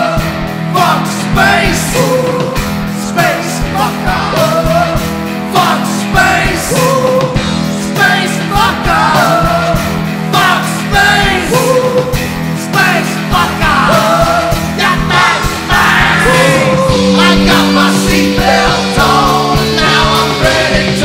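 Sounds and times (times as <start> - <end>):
drums: 0.0 - 21.0
electric bass: 0.0 - 21.0
electric guitar: 0.0 - 21.0
man singing: 0.0 - 21.0.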